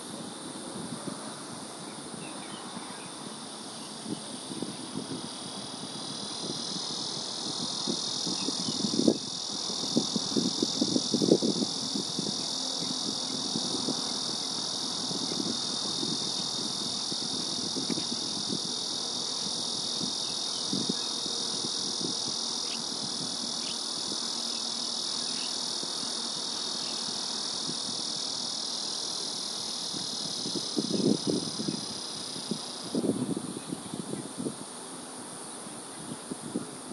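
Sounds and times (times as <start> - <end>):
insect chorus buzzing: 0.0 - 36.9.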